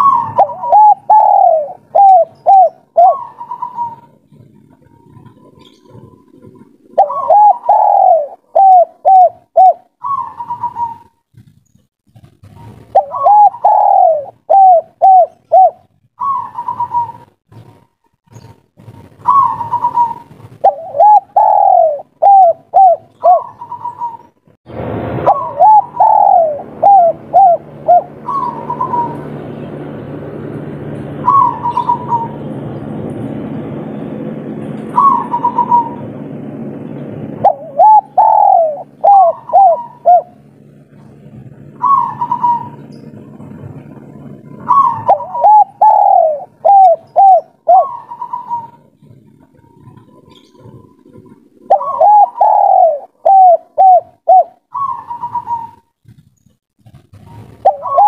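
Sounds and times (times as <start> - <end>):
dove cooing: 0.0 - 11.6, 12.4 - 24.3, 25.2 - 29.9, 31.1 - 32.6, 34.2 - 56.3, 57.2 - 58.0
steady low hum: 0.0 - 58.0.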